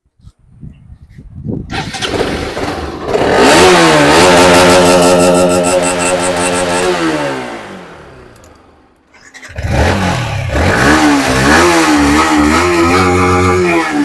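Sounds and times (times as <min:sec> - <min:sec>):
motorcycle engine revving: 0:01.7 - 0:14.0.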